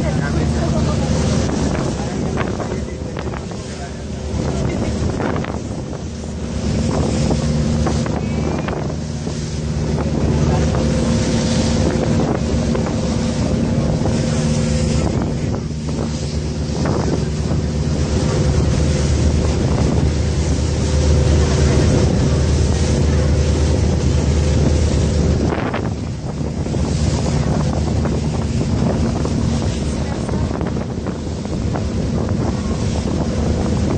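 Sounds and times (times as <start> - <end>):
boat engine droning: 0.0 - 33.9
water splashing against hull: 0.0 - 33.9
wind buffeting microphone: 0.0 - 33.9.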